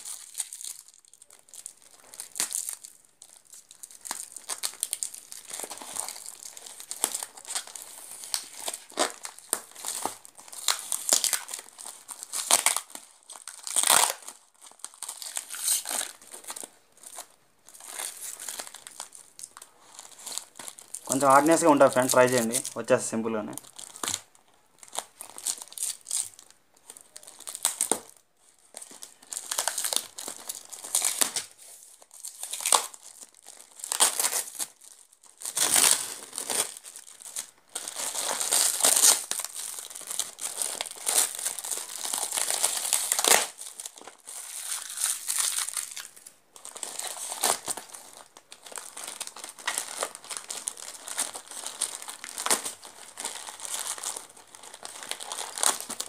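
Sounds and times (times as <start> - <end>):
plastic mailer tearing and crinkling: 0.0 - 56.0.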